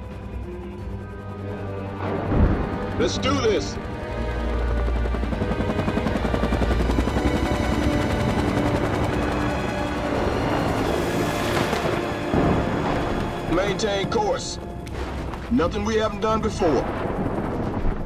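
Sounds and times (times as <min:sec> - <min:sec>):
helicopter rotor blades chopping: 0:00.0 - 0:18.0
low film score drone: 0:00.0 - 0:18.0.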